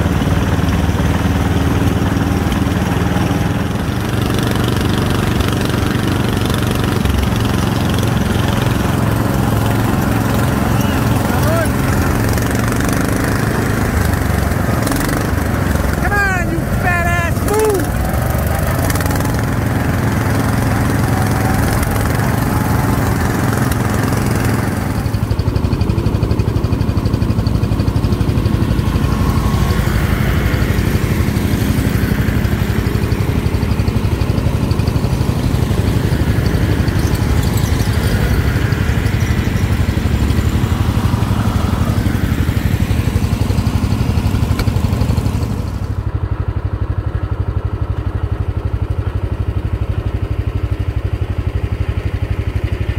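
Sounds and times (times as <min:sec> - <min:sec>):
small tractor engines droning: 0:00.0 - 0:52.9.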